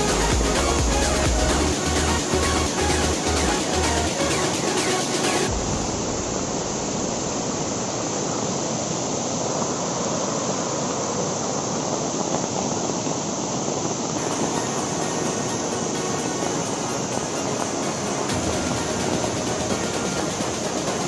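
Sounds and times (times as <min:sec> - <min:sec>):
heavy rain: 0:00.0 - 0:21.0
waterfall rushing: 0:00.0 - 0:21.0.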